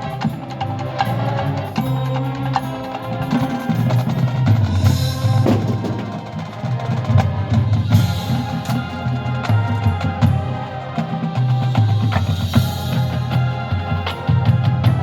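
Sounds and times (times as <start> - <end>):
marching band drums: 0.0 - 15.0
wind and brass chords: 0.0 - 15.0.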